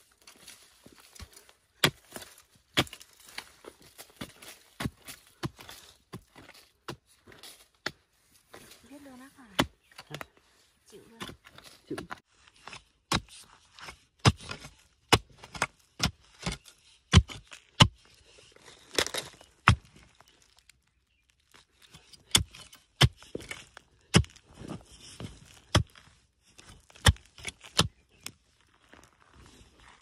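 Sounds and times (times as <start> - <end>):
hoe chopping stony soil: 0.1 - 8.0, 11.0 - 20.4, 21.5 - 28.4.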